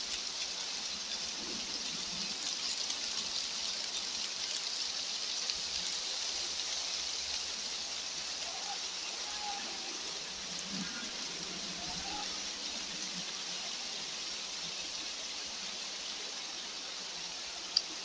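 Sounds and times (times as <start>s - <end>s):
weather hiss: 0.0s - 18.0s.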